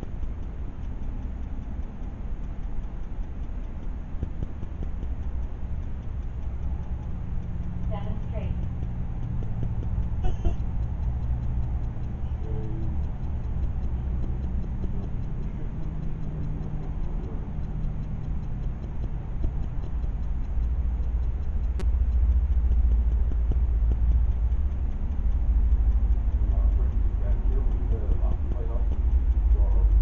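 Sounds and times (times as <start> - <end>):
sharp click: 0.0 - 30.0
steady low rumble: 0.0 - 30.0.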